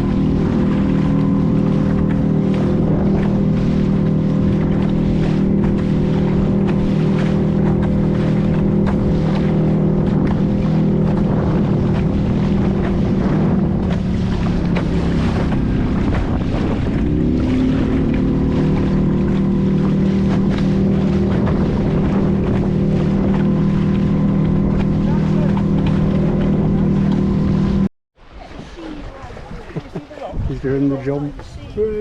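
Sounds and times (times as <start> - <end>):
wind buffeting microphone: 0.0 - 27.9, 28.5 - 32.0
boat engine running: 0.0 - 32.0.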